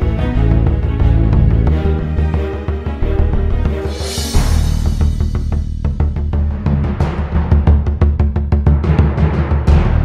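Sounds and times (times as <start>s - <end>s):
dramatic music with heavy drums: 0.0s - 10.0s.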